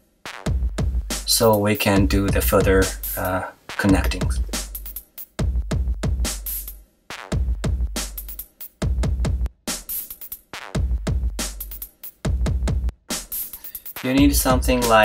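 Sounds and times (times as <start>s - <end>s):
electronic music with beat: 0.3s - 15.0s.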